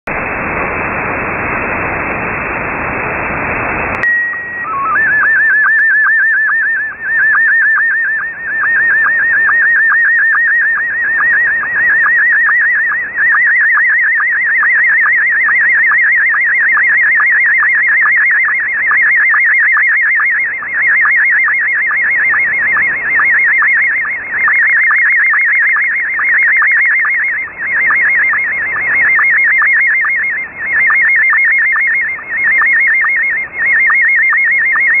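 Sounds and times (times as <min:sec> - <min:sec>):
shortwave static hiss: 0:00.1 - 0:35.0
steady tone with low blip: 0:03.6 - 0:35.0
fast repeating signal warble: 0:04.0 - 0:35.0.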